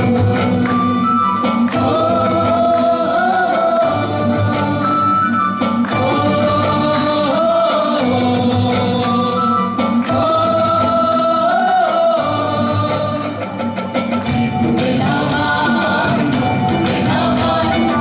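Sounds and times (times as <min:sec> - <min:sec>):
instrumental accompaniment with percussion: 0:00.0 - 0:18.0
person singing folk song: 0:00.0 - 0:18.0.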